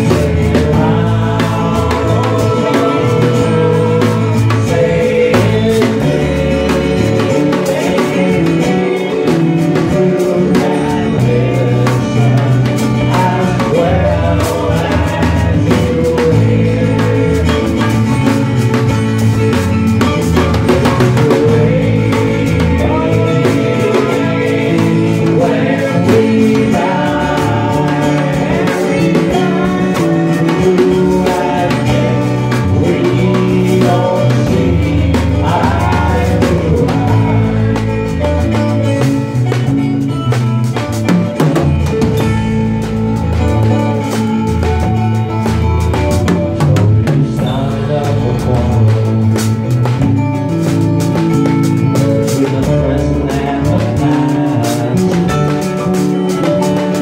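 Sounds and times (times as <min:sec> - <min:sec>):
man singing: 0:00.0 - 0:42.8, 0:43.4 - 0:57.0
drums and cymbals: 0:00.0 - 0:57.0
electric bass: 0:00.0 - 0:57.0.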